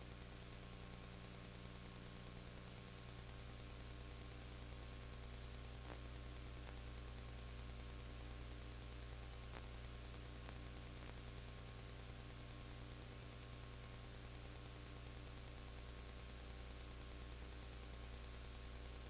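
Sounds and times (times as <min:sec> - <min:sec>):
faint ticks: 0:00.0 - 0:19.0
low electrical hum: 0:00.0 - 0:19.0.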